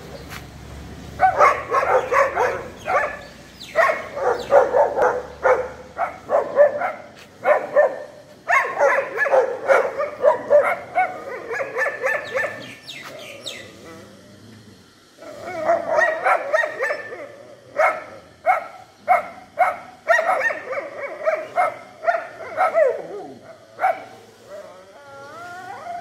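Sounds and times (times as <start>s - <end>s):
dogs barking: 1.2s - 14.1s, 15.2s - 24.8s.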